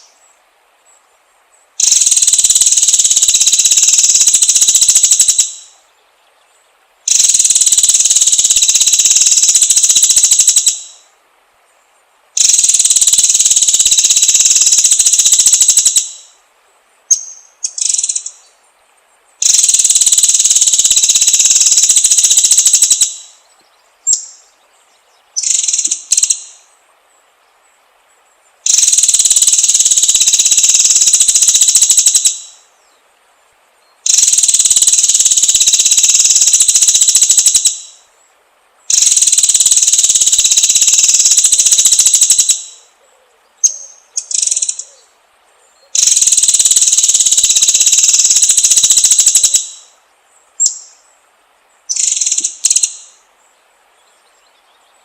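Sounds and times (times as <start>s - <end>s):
bird song with harsh rattling phrases: 0.0s - 16.4s, 17.0s - 55.0s.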